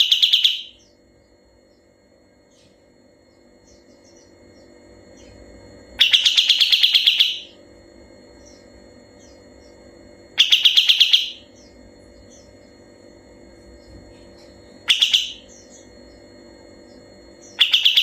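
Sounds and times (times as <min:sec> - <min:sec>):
songbird singing rapid trills: 0:00.0 - 0:18.0.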